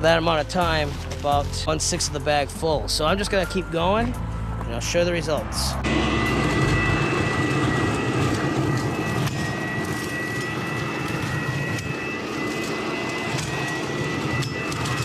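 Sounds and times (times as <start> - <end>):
leaf vacuum whining: 0.0 - 15.0.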